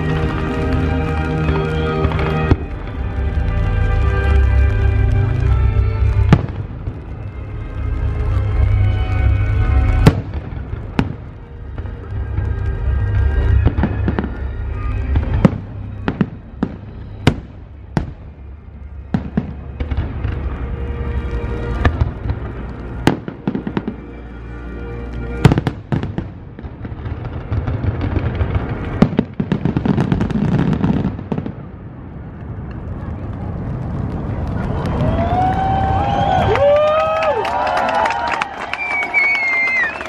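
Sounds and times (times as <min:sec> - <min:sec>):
low rumble: 0:00.0 - 0:37.1
fireworks bangs: 0:00.0 - 0:40.0
fireworks crackle: 0:00.0 - 0:40.0.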